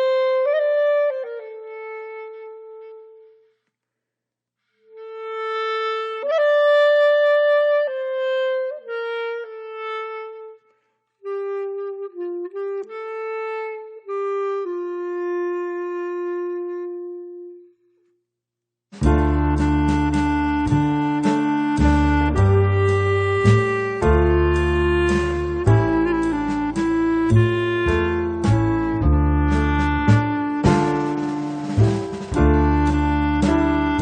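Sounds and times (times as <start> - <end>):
solo woodwind melody: 0.0 - 3.6, 4.8 - 17.9, 19.0 - 34.0.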